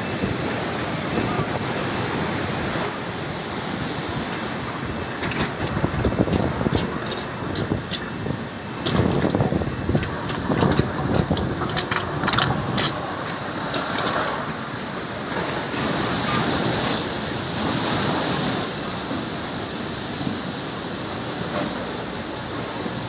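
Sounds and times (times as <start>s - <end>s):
rushing water in washing machine: 0.0s - 23.0s.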